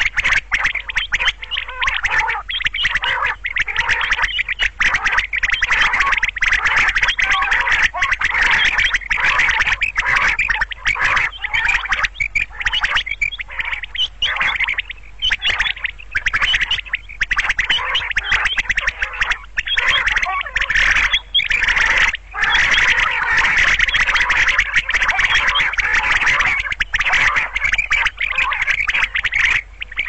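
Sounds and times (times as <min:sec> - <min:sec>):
quail calling: 0:00.0 - 0:30.0.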